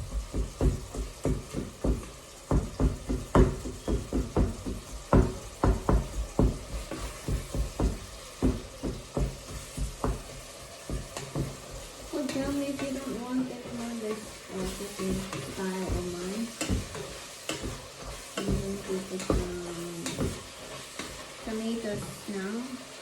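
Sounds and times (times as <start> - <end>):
onion frying with sizzle: 0.0 - 23.0
utensil knocking against pan: 0.1 - 20.4.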